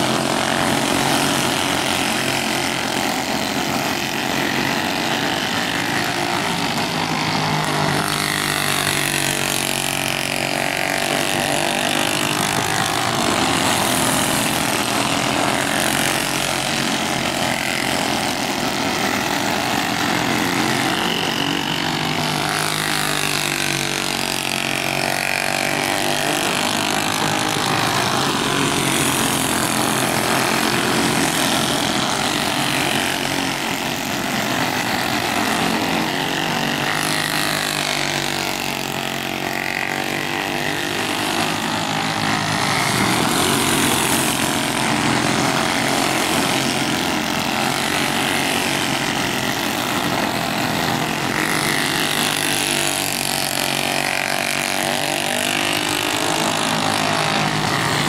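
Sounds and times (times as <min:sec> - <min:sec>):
go-kart engines passing by: 0:00.0 - 0:58.0.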